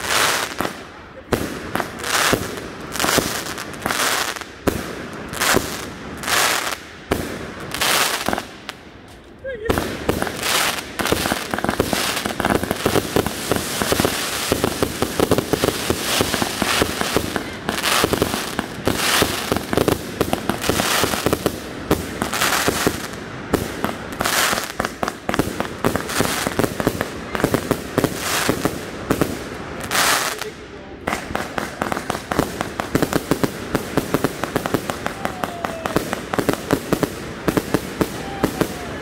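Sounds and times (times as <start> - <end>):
fireworks firing in a barrage: 0.0 - 39.0.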